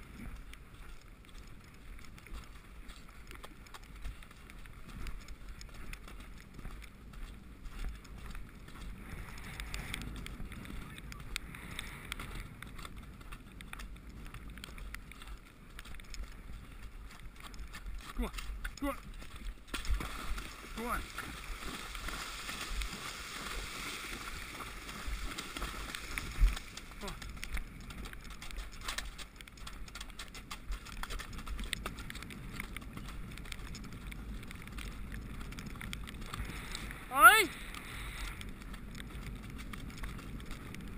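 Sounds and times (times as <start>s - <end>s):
horse hoofbeats and tack clicks: 0.0s - 40.9s
wind over microphone: 0.0s - 40.9s.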